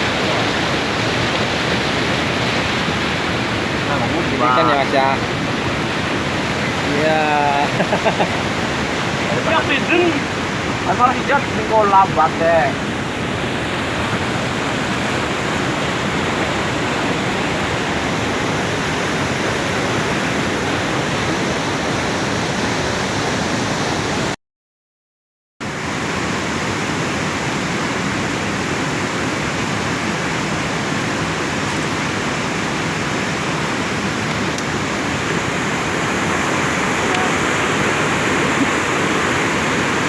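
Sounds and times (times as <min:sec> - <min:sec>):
river rushing over rocks: 0:00.0 - 0:24.3, 0:25.6 - 0:40.0.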